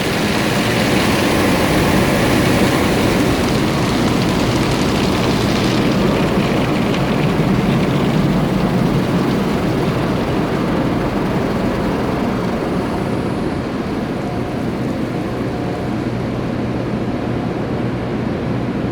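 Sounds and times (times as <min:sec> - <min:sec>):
car wash rushing noise: 0:00.0 - 0:17.1.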